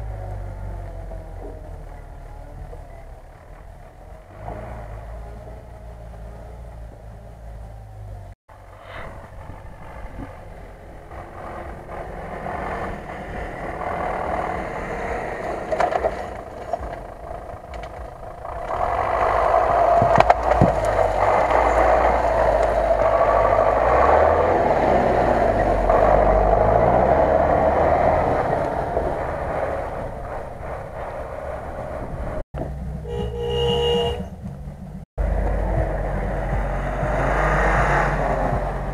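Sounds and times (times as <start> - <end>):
truck engine driving by: 0.0 - 38.9.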